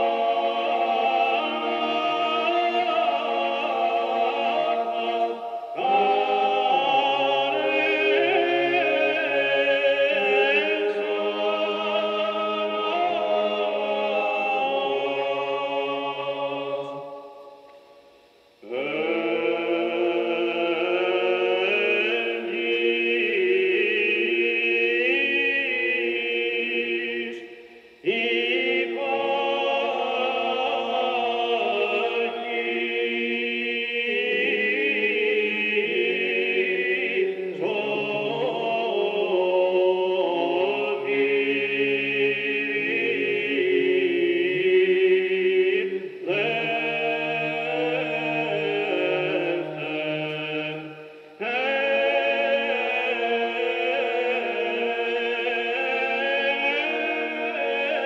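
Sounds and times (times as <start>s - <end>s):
solo cantor chanting: 0.0s - 17.6s, 18.6s - 58.0s.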